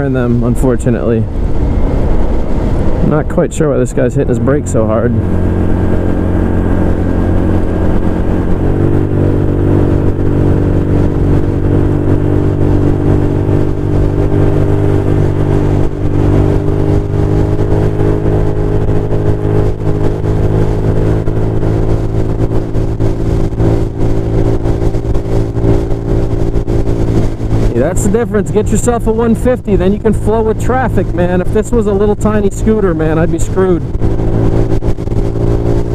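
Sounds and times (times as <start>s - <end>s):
scooter engine accelerating: 1.4s - 35.9s.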